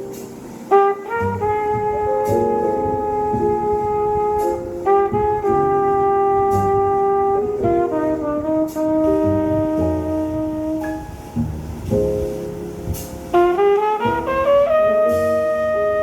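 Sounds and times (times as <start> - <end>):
brass instrument long notes: 0.7 - 11.2, 13.3 - 16.0
bass line: 0.7 - 16.0.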